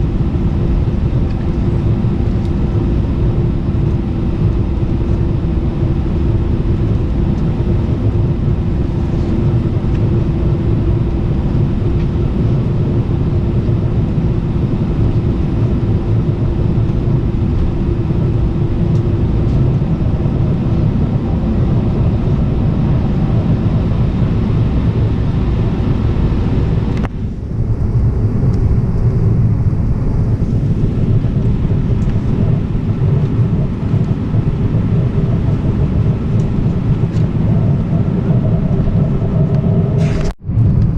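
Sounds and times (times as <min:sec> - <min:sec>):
airliner cabin rumble: 0:00.0 - 0:40.9
steady hum: 0:00.0 - 0:40.9.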